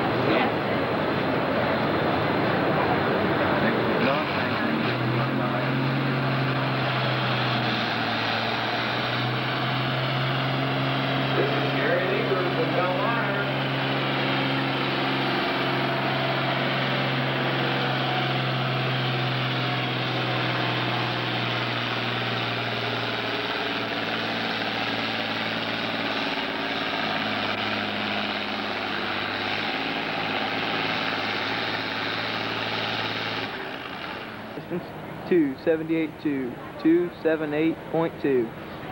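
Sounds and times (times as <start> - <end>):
tractor engine under heavy load: 0.0 - 38.9.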